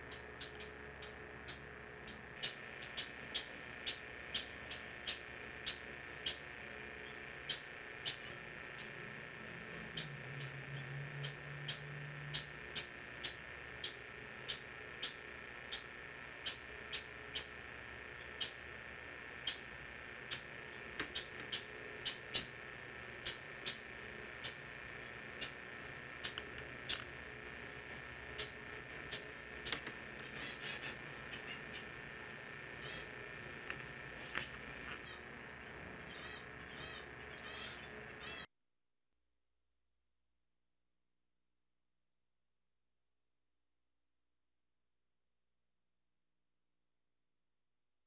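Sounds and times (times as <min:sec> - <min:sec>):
faint steady whine: 0:00.0 - 0:38.5.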